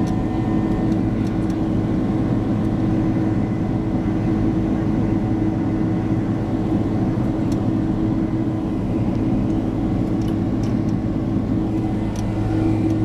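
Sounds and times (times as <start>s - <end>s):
jet engine cabin drone: 0.0s - 13.0s
low hum: 0.0s - 13.0s.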